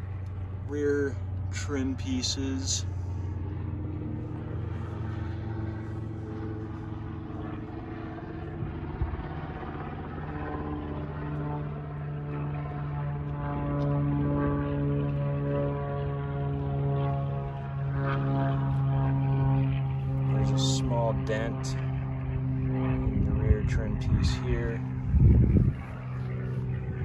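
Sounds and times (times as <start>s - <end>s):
engine drone: 0.0s - 27.0s.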